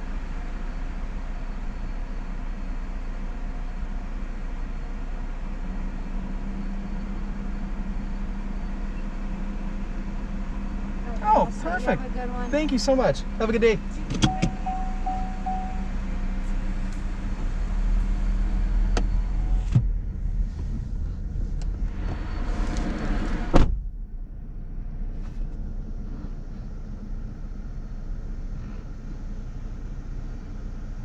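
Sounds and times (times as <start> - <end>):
car engine rumble: 0.0 - 31.0.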